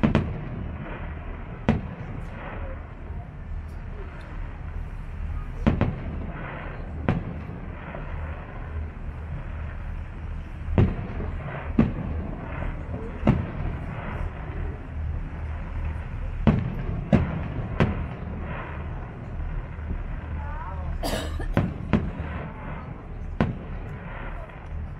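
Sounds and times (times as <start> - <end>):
distant fireworks bangs: 0.0 - 24.9
steady low hum: 0.0 - 24.9.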